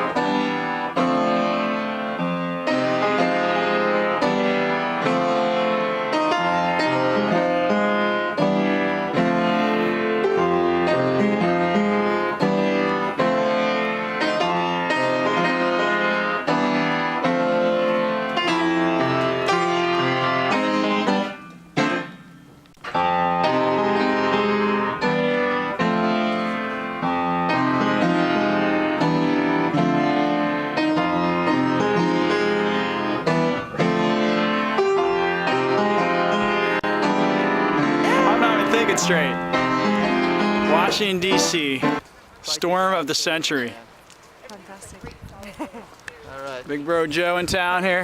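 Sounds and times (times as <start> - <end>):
piano background music: 0.0 - 42.0.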